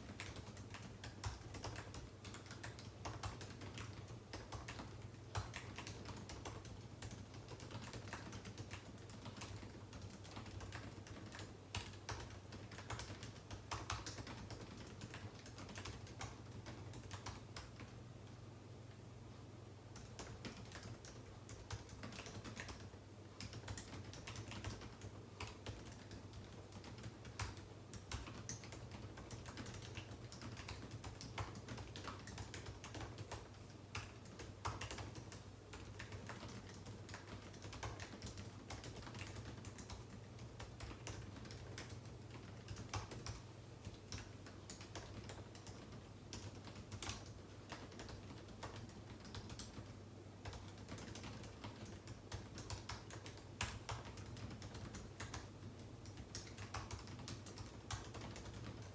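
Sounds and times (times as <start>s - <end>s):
computer keyboard typing: 0.0s - 18.4s, 19.9s - 58.9s.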